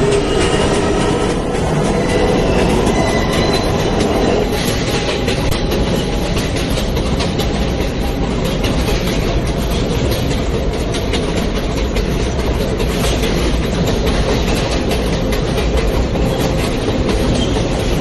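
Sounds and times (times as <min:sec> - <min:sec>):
subway train rumbling: 0:00.0 - 0:18.0
wheels clicking over rail joints: 0:00.0 - 0:18.0.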